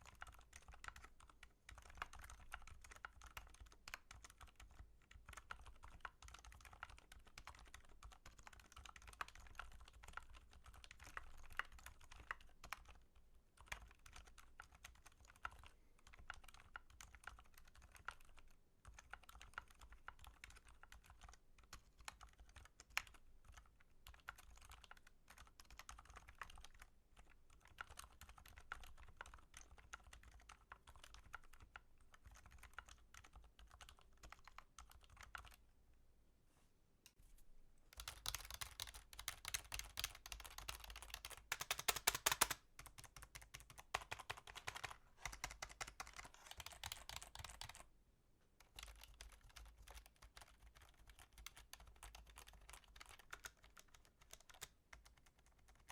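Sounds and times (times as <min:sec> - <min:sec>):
fast typing on keyboard: 0:00.0 - 0:35.6, 0:38.0 - 0:47.9, 0:48.6 - 0:55.9.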